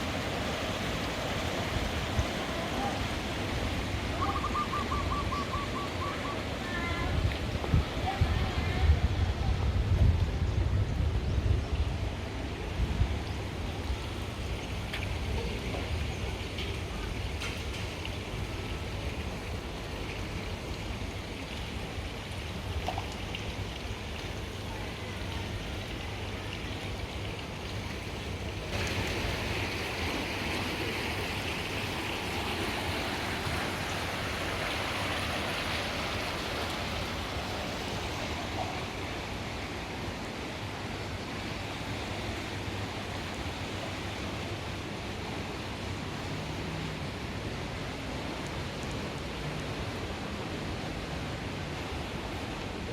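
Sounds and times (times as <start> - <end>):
rushing churning water: 0.0 - 52.9.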